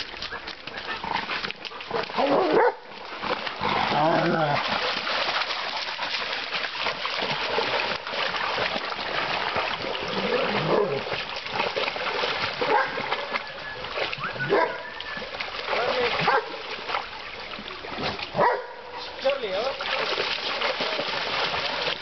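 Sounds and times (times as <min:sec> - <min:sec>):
dogs splashing through water: 0:00.0 - 0:22.0.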